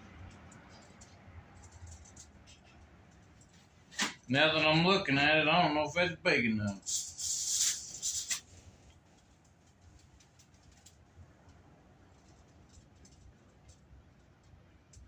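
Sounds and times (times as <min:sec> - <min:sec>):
marker ticking and scratching on metal: 0:00.0 - 0:04.2, 0:06.7 - 0:15.0.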